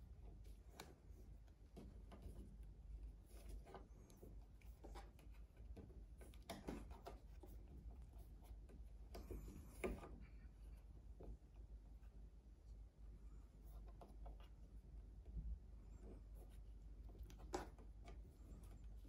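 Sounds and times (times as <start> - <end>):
scratching and tapping on wood: 0.1 - 10.4, 13.6 - 19.0.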